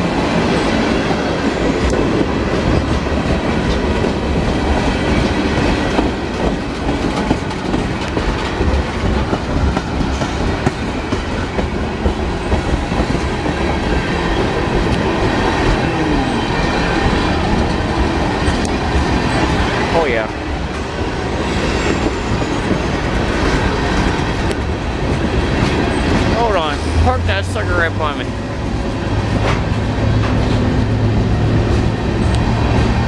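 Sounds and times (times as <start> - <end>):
freight train rolling past: 0.0 - 33.0
train wheels clicking: 0.4 - 27.6.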